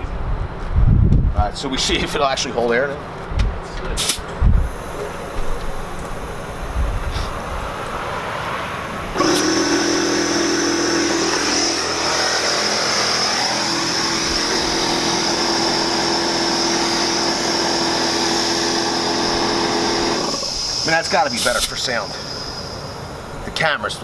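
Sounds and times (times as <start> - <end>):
air compressor motor hum: 4.0 - 23.8
high air hiss: 4.0 - 24.0.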